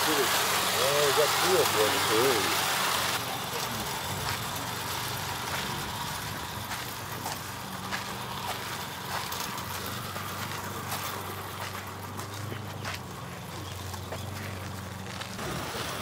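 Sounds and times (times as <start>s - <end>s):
wheels clicking on rails: 0.0s - 16.0s.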